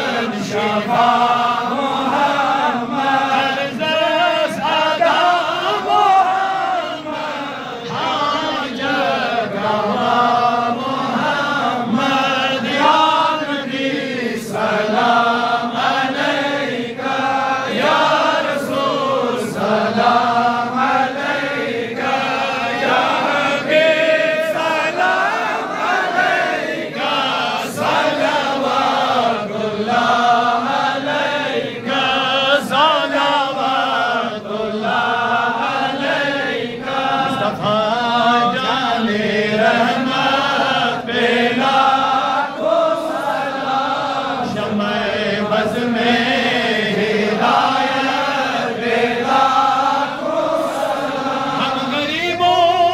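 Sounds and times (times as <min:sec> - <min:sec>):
men chanting a hymn: 0:00.0 - 0:52.9.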